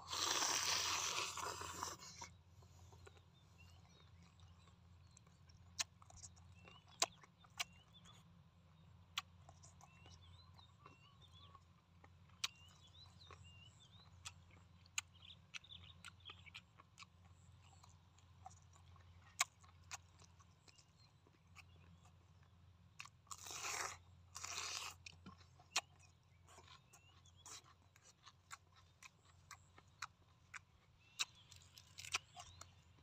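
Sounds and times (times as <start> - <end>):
person chewing: 0.0 - 8.2, 9.1 - 33.0.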